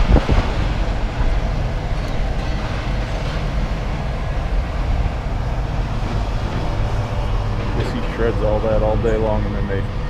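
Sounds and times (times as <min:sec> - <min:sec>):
large engine rumbling: 0:00.0 - 0:10.0.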